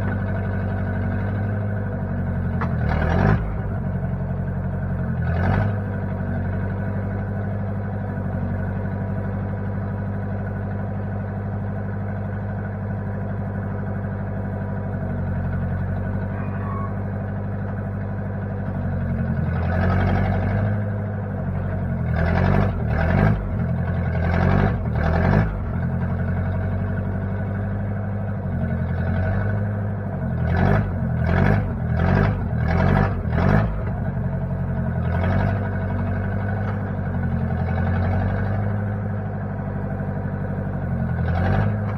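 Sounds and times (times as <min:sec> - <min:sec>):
backhoe engine running and surging: 0:00.0 - 0:41.9.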